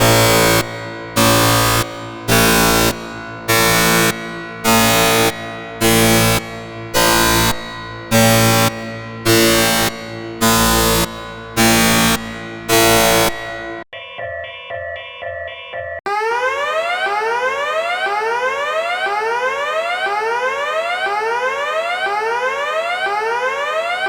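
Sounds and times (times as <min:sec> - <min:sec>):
quieter alarm tone: 0:00.0 - 0:13.8, 0:16.1 - 0:24.0
harsh buzzy alarm blasts: 0:00.0 - 0:13.9, 0:16.1 - 0:24.0.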